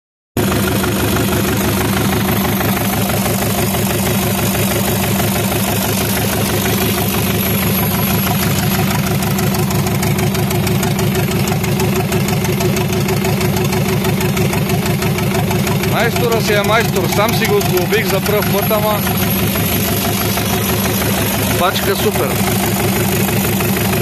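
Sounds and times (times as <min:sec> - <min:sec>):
tractor engine idling: 0:00.4 - 0:24.0.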